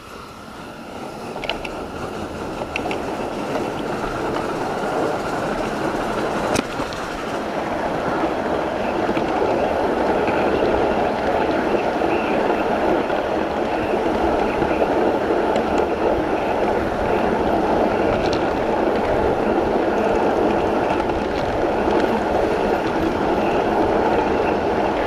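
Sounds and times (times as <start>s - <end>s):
miniature train rolling on track: 0.0s - 25.0s.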